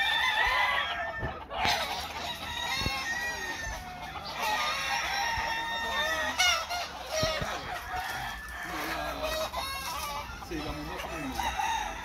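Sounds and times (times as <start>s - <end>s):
roosters crowing and clucking: 0.0s - 12.0s.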